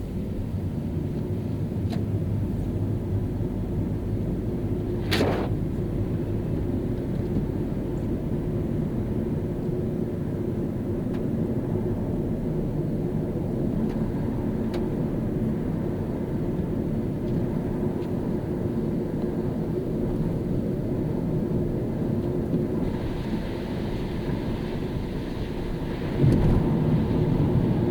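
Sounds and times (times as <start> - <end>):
tyres rumbling on wet road: 0.0 - 27.9.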